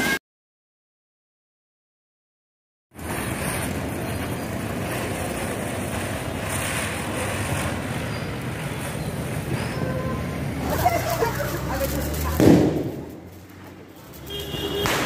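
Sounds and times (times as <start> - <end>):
ground fireworks hissing: 2.9 - 15.0.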